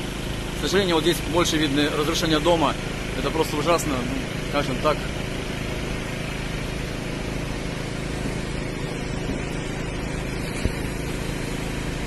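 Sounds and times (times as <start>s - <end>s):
low rumble with hum and hiss: 0.0s - 12.0s.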